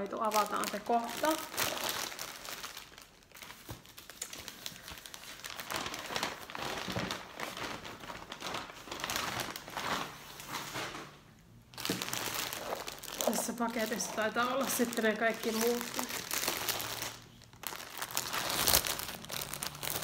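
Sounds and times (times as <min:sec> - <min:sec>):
plastic packaging crinkling: 0:00.0 - 0:11.1, 0:11.7 - 0:20.0.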